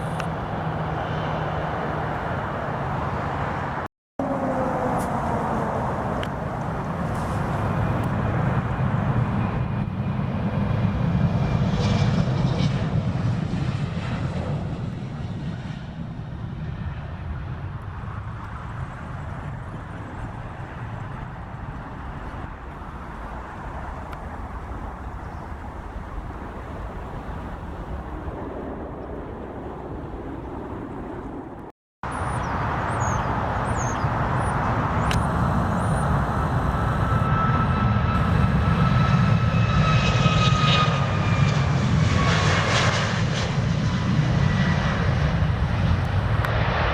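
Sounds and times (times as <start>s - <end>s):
jet engine high whine: 0.0s - 46.9s
jet engines rumbling: 0.0s - 46.9s.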